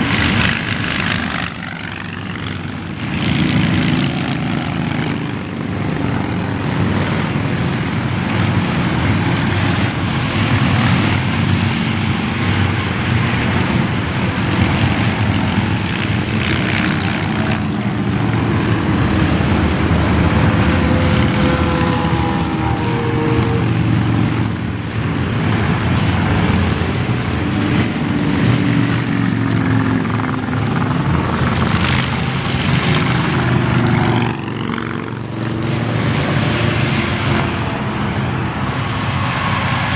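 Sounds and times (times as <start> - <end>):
drone of many motorcycle engines: 0.0 - 39.9
motorcycle passing by: 0.0 - 39.9.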